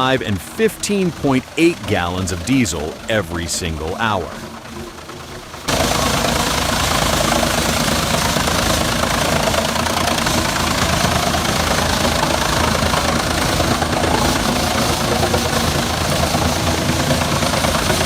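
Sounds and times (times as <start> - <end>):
large engine running under load: 0.0 - 18.0.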